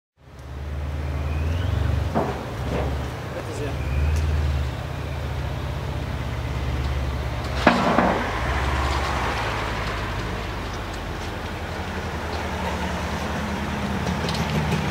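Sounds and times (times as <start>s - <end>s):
diesel truck engine rumbling: 0.2s - 14.9s.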